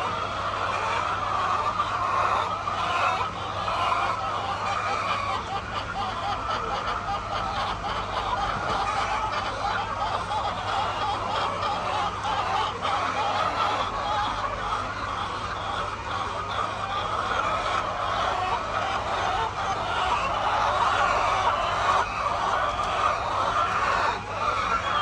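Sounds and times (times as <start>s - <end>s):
hens clucking: 0.0s - 25.0s.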